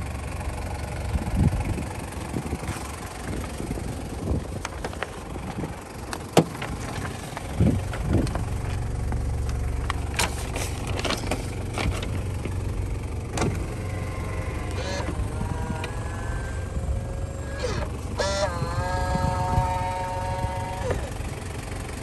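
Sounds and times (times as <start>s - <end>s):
diesel engine starting and idling: 0.0s - 22.0s.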